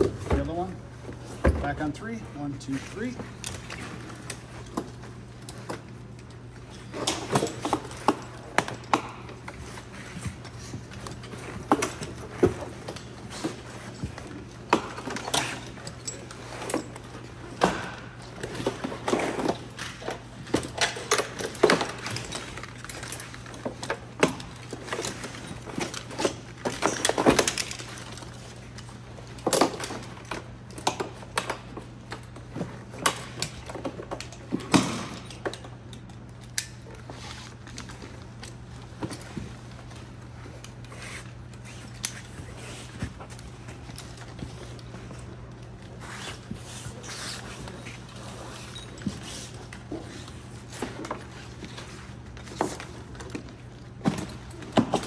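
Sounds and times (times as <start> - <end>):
gear clinking and rustling: 0.0 - 55.0.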